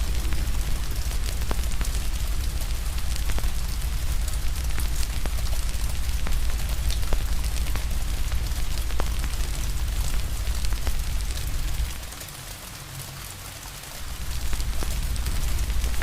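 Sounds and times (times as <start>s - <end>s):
low rumble: 0.0s - 12.1s, 14.0s - 16.0s
wood fire crackling: 0.0s - 12.4s, 14.0s - 16.0s
rain hiss: 0.0s - 16.0s.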